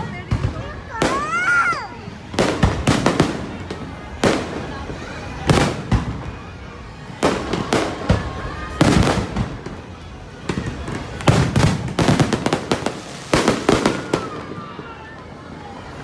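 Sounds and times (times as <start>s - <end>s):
aerial fireworks bursting: 0.0s - 16.0s.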